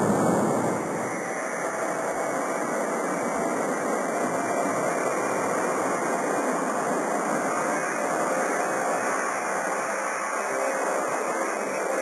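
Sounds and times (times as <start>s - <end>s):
jet engine rushing: 0.0s - 12.0s.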